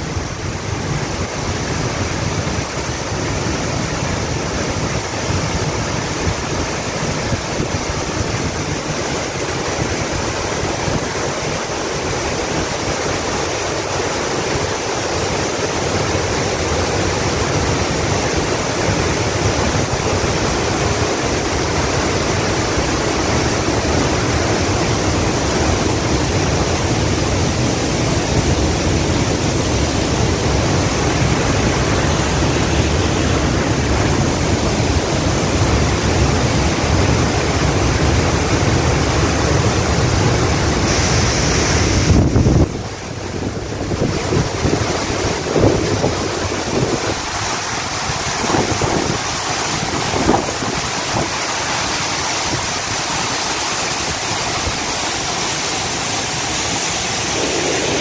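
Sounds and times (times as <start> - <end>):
waterfalls rushing: 0.0 - 58.0.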